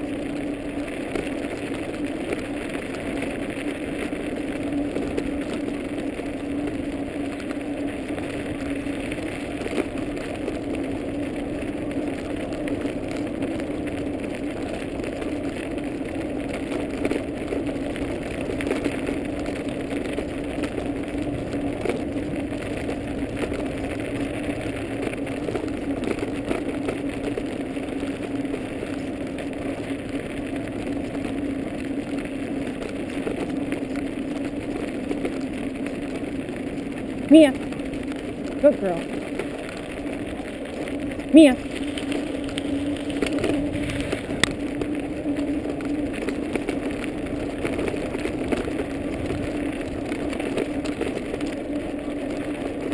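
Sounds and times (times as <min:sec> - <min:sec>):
scooter tyres rumbling on snow: 0:00.0 - 0:52.9.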